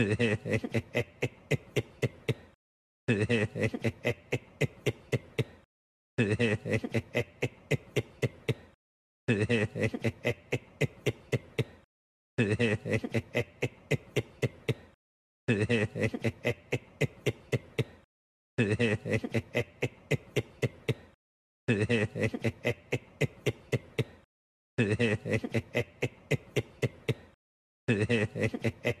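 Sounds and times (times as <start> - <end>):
man giggling laugh: 0.0 - 29.0.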